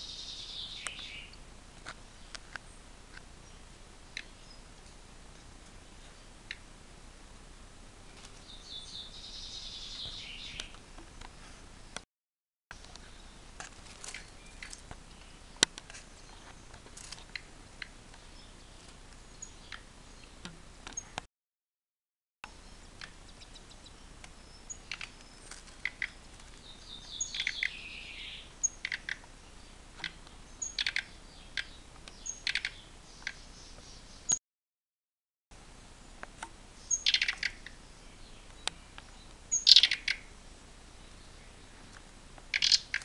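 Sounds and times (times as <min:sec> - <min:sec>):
cage birds chirping: 0:00.0 - 0:01.4, 0:02.1 - 0:06.7, 0:08.1 - 0:12.0, 0:12.8 - 0:21.2, 0:22.5 - 0:34.4, 0:35.9 - 0:40.3, 0:40.9 - 0:43.0.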